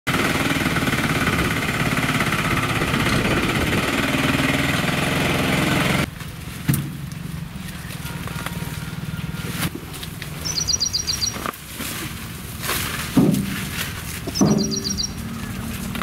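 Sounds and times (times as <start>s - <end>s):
autorickshaw engine running: 0.1s - 16.0s
outdoor background: 0.1s - 16.0s.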